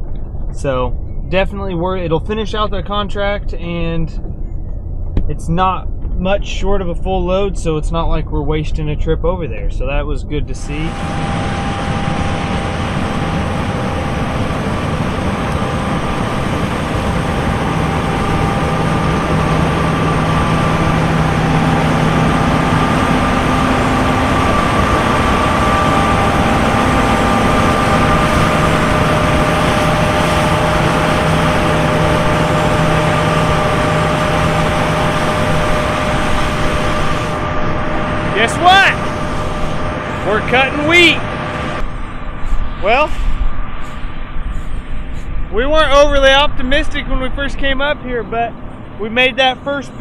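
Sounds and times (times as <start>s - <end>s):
heavy engine running: 0.0s - 50.0s
whining tones: 0.0s - 50.0s.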